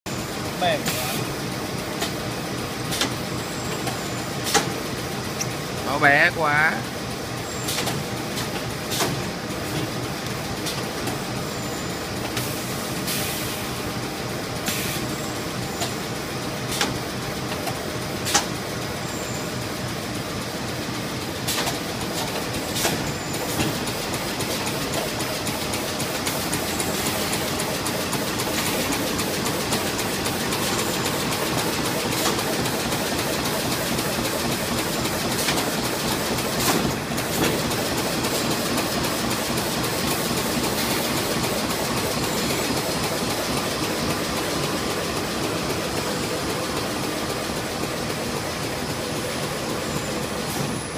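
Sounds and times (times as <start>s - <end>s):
machines clattering and humming: 0.1s - 50.9s.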